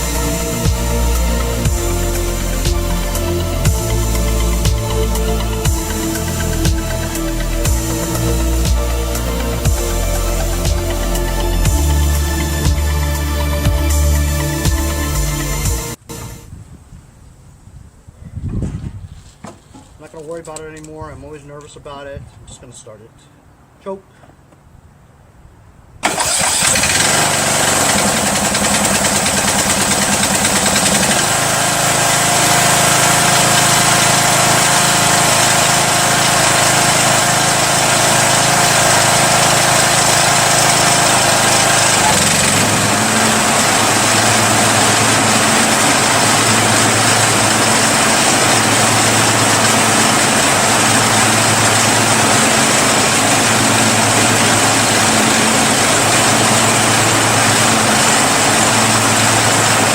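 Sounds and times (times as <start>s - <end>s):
small engine running: 0.0s - 16.4s, 26.0s - 59.9s.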